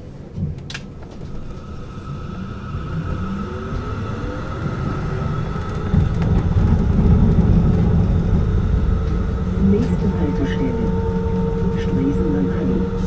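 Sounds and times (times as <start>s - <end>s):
low rumble: 0.0s - 13.0s
tram electrical whine: 0.0s - 13.0s
faint rising tone: 1.3s - 13.0s.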